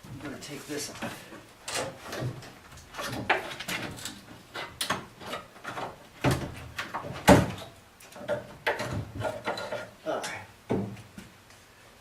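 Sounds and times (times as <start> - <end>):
wooden boards knocking and creaking: 1.0 - 10.0, 10.6 - 11.4.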